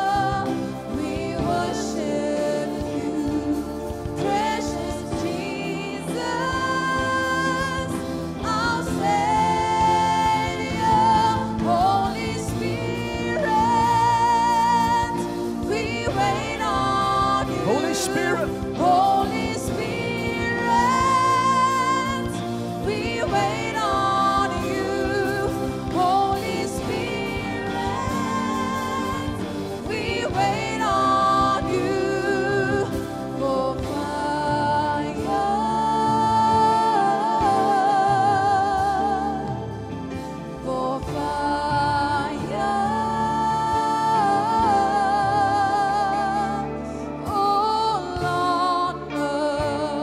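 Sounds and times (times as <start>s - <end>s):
congregation singing: 0.0s - 50.0s
sustained instrumental backing: 0.0s - 50.0s.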